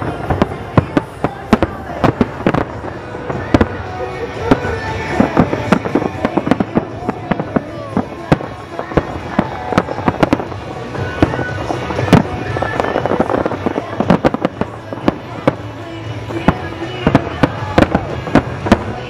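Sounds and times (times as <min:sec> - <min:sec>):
fireworks bursting: 0:00.0 - 0:19.0
steady rumble: 0:00.0 - 0:19.0.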